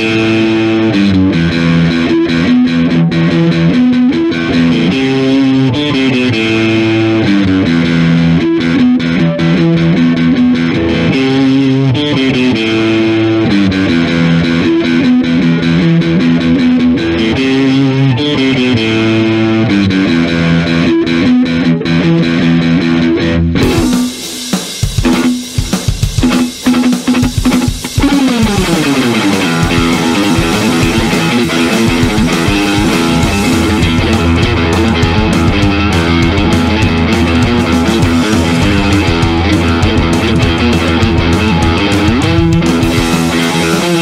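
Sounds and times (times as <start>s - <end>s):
distorted electric guitar riff: 0.0s - 44.0s.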